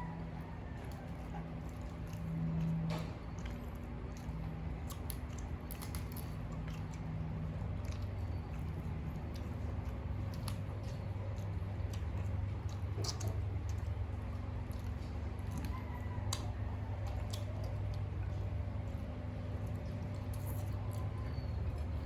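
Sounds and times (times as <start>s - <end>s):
chewing and mouth smacks: 0.0s - 22.0s
steady low hum: 0.0s - 22.0s.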